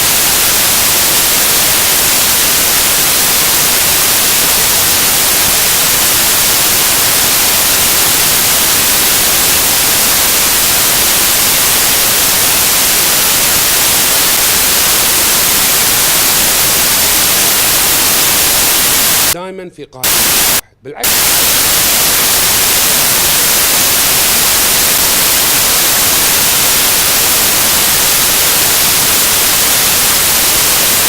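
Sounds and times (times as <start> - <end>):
loud static hiss: 0.0 - 19.4, 20.0 - 31.0.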